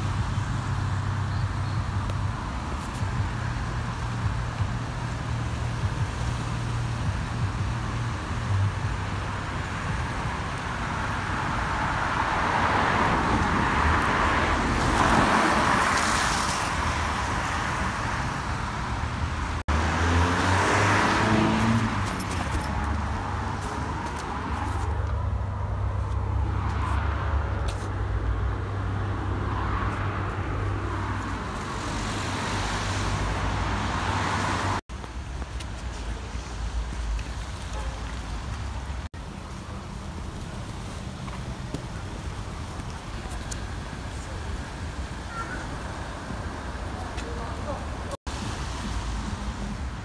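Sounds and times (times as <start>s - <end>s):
road traffic: 0.0s - 50.0s.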